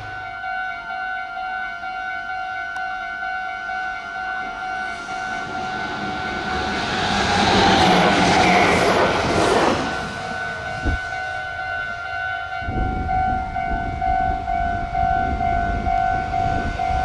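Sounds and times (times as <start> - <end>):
train rushing past: 3.3 - 17.0.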